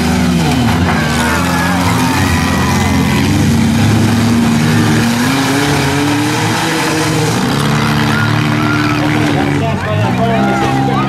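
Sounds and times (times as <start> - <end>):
cars shoving against each other: 0.0 - 10.8
car engines revving hard: 0.0 - 11.0.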